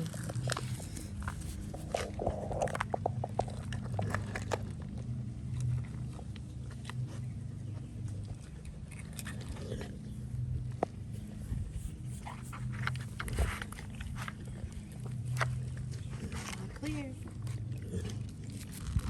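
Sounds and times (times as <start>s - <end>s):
dog biting and chewing: 0.0s - 7.3s, 8.0s - 19.0s.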